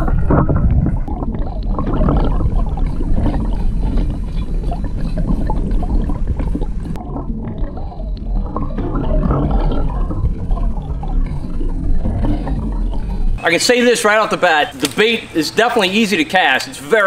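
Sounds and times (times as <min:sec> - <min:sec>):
underwater churn of water: 0:00.0 - 0:14.8.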